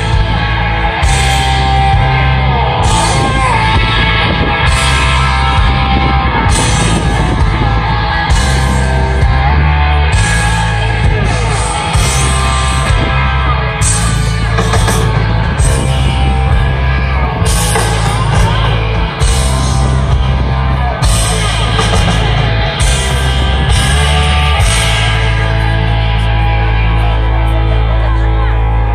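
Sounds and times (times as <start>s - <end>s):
rock band playing loudly: 0.0s - 28.9s.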